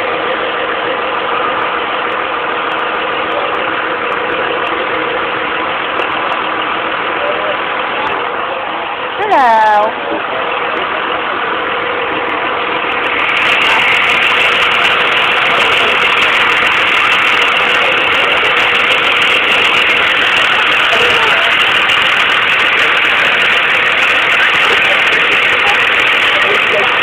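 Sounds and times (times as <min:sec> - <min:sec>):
bus engine idling: 0:00.0 - 0:27.0.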